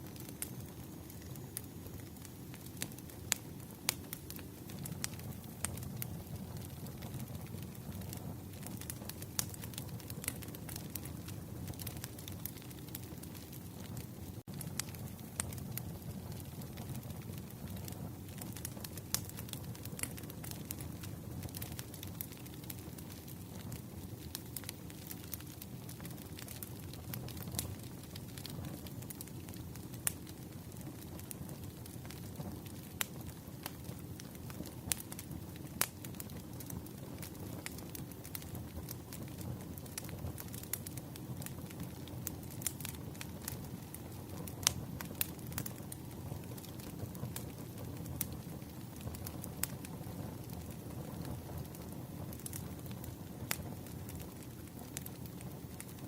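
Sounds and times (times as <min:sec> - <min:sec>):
fire popping: 0:00.0 - 0:56.0
low fire rumble: 0:00.0 - 0:56.0
wood crackling: 0:00.0 - 0:56.0.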